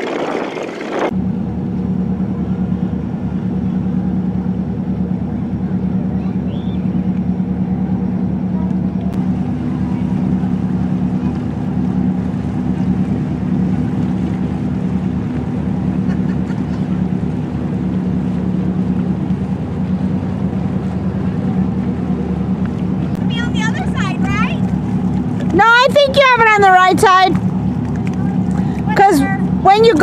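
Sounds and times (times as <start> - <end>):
motorboat engine droning: 0.0 - 30.0.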